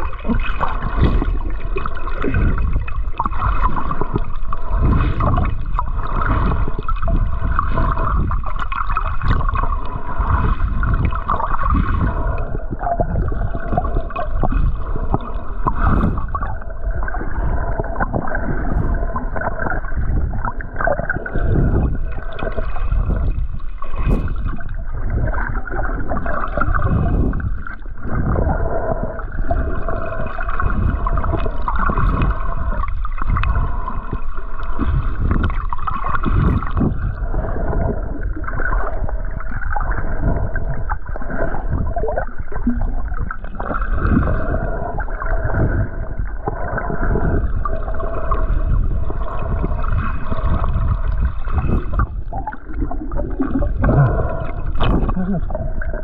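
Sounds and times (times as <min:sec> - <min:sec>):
low rumbling: 0:00.0 - 0:56.0
water sloshing underwater: 0:00.0 - 0:56.0.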